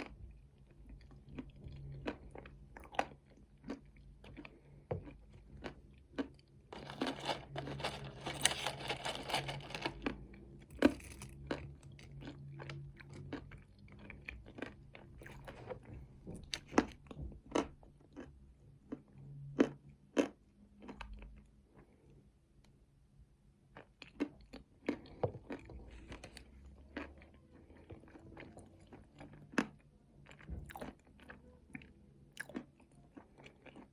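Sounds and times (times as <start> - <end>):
chewing nuts: 0.0 - 22.2, 23.7 - 33.9.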